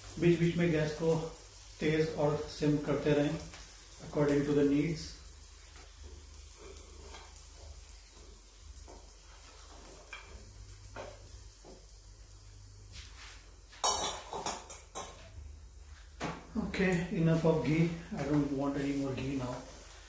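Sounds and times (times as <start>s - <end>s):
flatbread sizzling on a pan: 0.0s - 20.0s.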